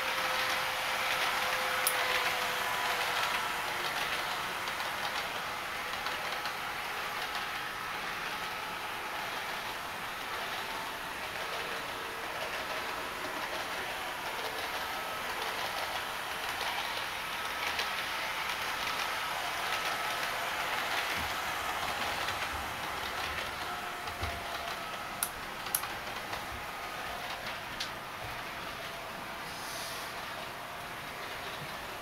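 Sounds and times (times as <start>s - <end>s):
model train rolling on track: 0.0s - 32.0s.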